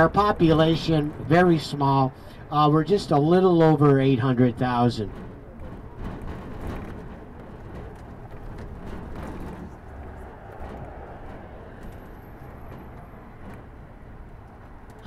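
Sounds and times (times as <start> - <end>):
bus engine: 0.0 - 15.0
road noise: 0.0 - 15.0.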